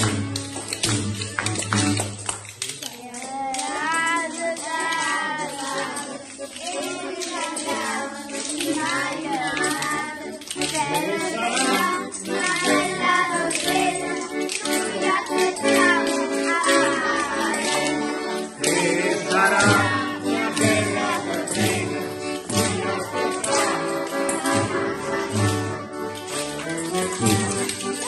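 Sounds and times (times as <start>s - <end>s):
tambourines shaken: 0.0s - 28.0s
children singing: 3.1s - 28.0s.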